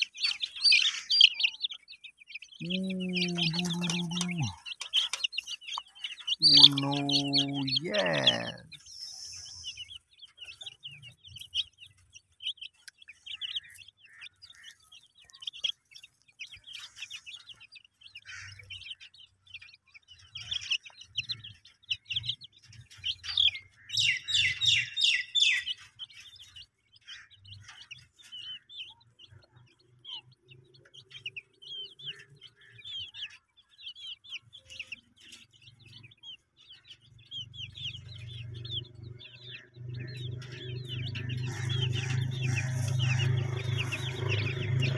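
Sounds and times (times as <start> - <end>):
chicks peeping: 0.0 - 44.9.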